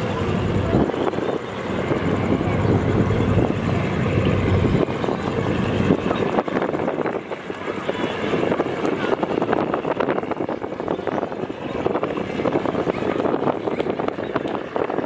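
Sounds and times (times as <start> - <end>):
low engine rumble: 0.0 - 15.0
wind buffeting microphone: 0.0 - 15.0.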